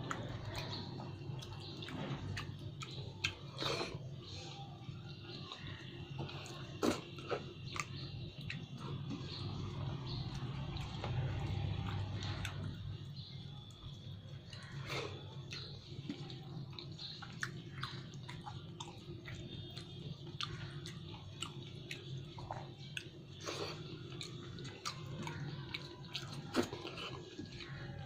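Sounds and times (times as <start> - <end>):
chewing and wet mouth clicks: 0.0 - 4.3, 5.0 - 13.7, 14.4 - 28.0.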